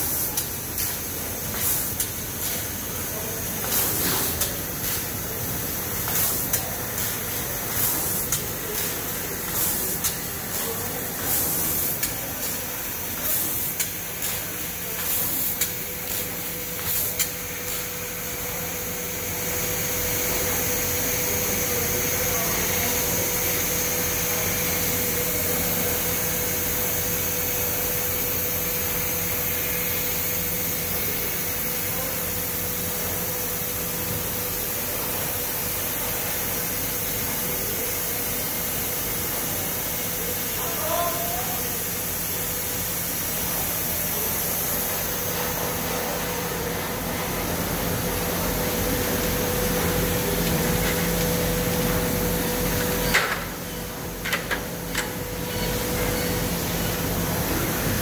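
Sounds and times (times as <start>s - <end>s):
laser cutter hissing air: 0.0s - 58.0s.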